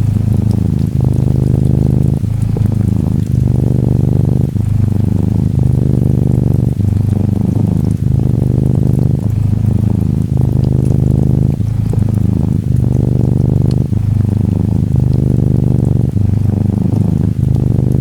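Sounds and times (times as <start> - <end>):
kitten purring: 0.0 - 18.0
raindrop ticks: 0.0 - 18.0.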